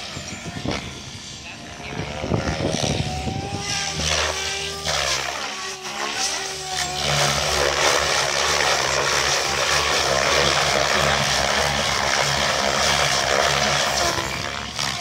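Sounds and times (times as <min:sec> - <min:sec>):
rc helicopter rotor whirring: 0:00.0 - 0:15.0.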